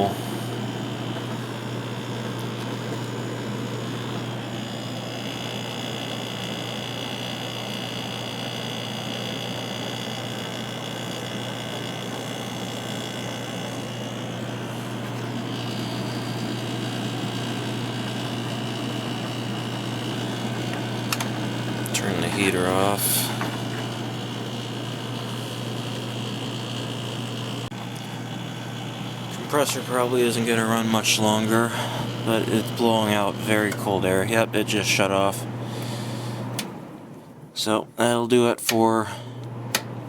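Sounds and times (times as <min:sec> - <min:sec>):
faint high whine: 0:00.0 - 0:36.4
air conditioner humming: 0:00.0 - 0:40.0
space heater running: 0:00.0 - 0:40.0.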